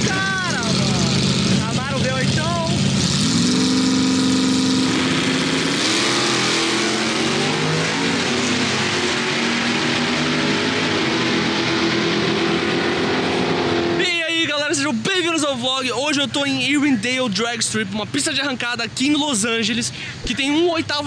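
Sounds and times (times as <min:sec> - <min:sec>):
drag racing car engines revving: 0:00.0 - 0:21.0.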